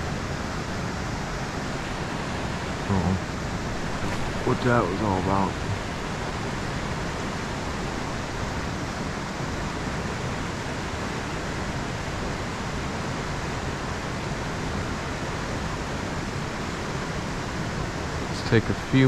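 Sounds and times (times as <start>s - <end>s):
creek water rushing: 0.4s - 19.0s.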